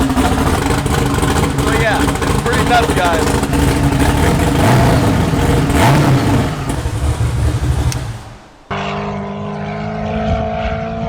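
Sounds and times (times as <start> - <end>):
car engine running hard: 0.0 - 11.0
steady pitched drone: 0.0 - 11.0.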